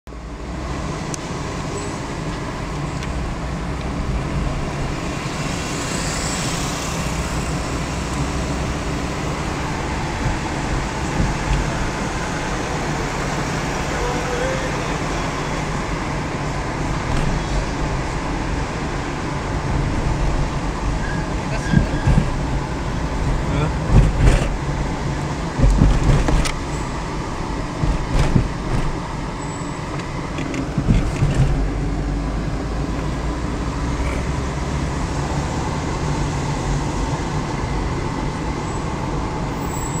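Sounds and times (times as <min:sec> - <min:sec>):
car interior road noise: 0:00.1 - 0:40.0.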